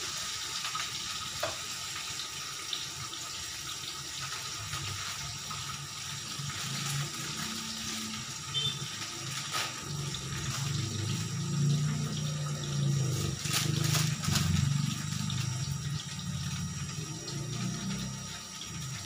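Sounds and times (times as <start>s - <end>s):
tap water running into sink: 0.0s - 19.0s.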